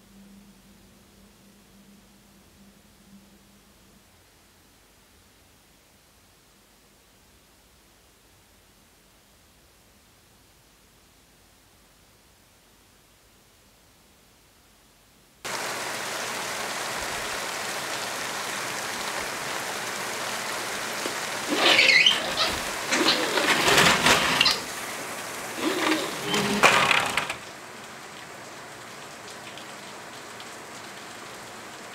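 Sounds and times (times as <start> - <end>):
steady rain: 0.0 - 31.9.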